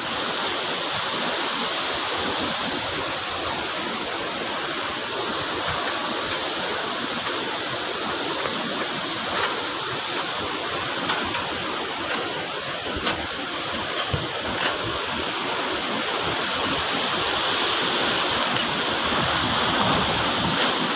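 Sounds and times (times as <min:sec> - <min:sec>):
floodwater rushing through dam gates: 0:00.0 - 0:20.9.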